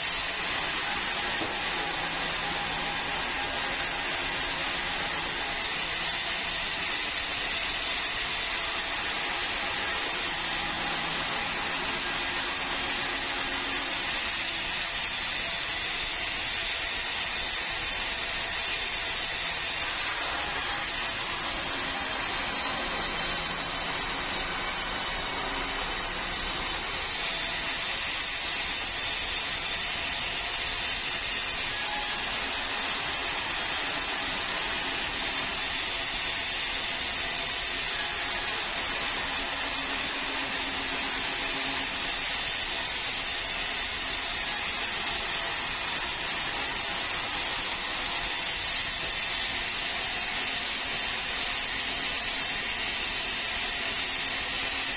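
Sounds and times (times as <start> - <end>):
sawmill saw cutting through log: 0.0 - 54.9.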